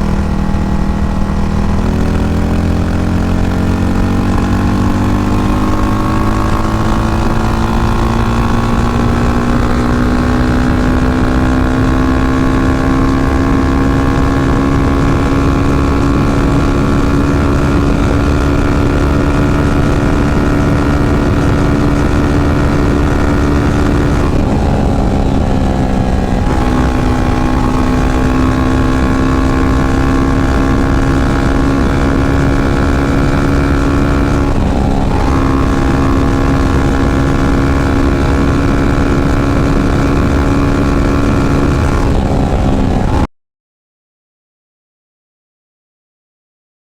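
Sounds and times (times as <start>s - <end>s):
motorcycle engine accelerating: 0.0s - 43.3s
wind rush: 0.0s - 43.3s.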